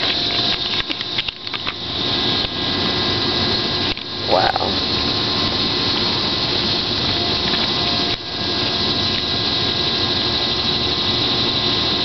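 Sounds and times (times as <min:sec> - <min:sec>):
machine hiss and hum: 0:00.0 - 0:12.0.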